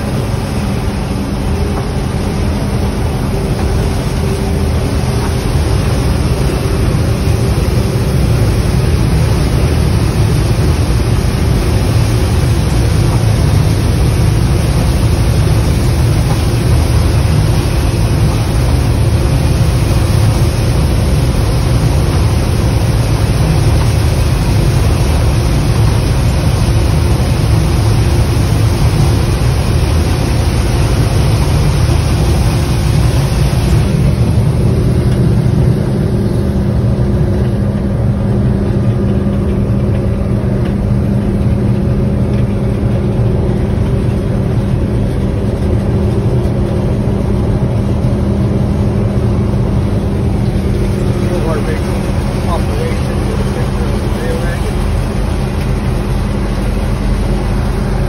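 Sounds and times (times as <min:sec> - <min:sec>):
combine engine and threshing drone: 0:00.0 - 0:58.0.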